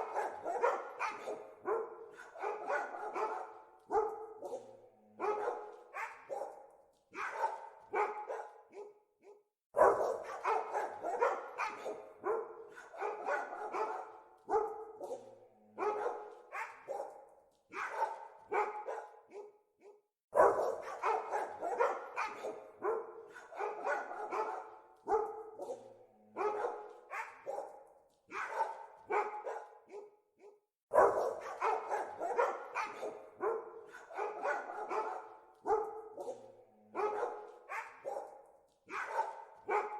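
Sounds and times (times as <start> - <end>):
dogs barking: 0.0 - 39.9.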